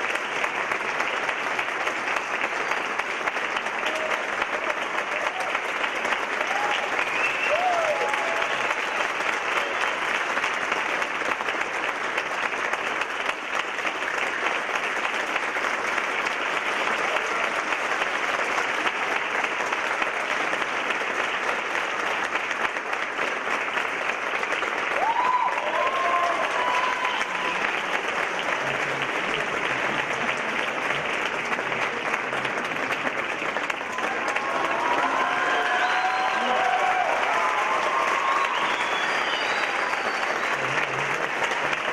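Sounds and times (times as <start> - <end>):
large audience applauding: 0.0 - 41.9.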